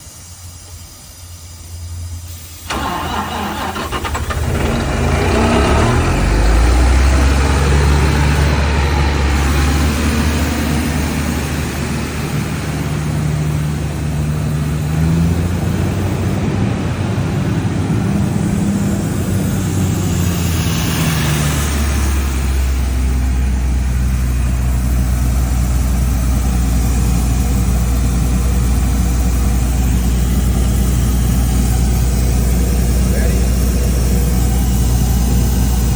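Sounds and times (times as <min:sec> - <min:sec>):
air compressor diesel engine running: 0:00.0 - 0:35.9.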